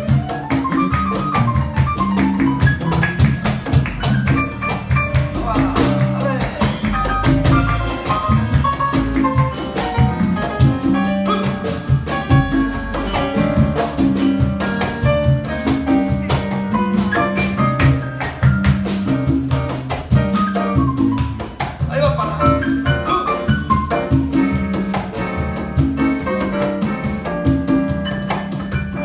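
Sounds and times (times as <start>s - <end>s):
bass line: 0.0s - 29.0s
drum kit beat: 0.0s - 29.0s.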